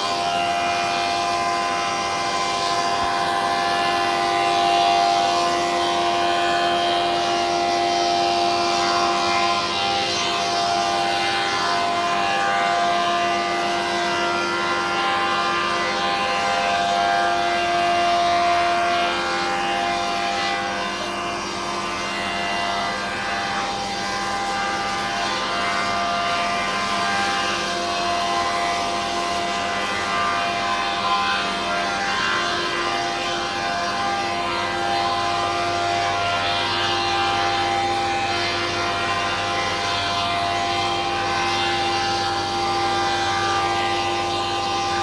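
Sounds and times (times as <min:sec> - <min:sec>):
wood planer machine whine: 0:00.0 - 0:45.0.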